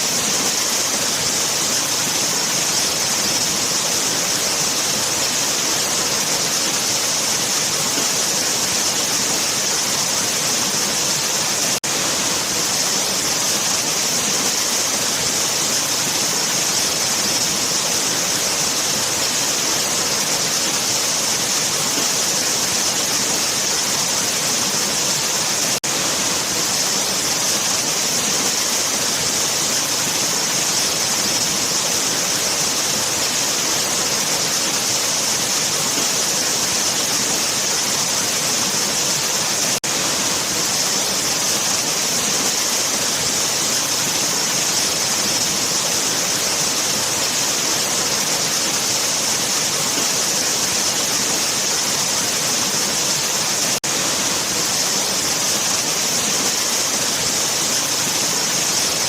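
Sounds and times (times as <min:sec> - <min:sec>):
bright hiss of water: 0:00.0 - 0:59.0
waterfall rushing: 0:00.0 - 0:59.0.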